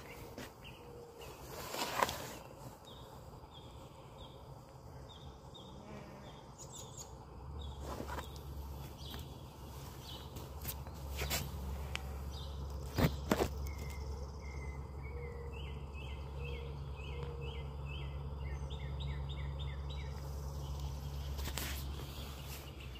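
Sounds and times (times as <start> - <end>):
songbird chirping: 0.0 - 22.9
steady low rumble: 2.4 - 22.9.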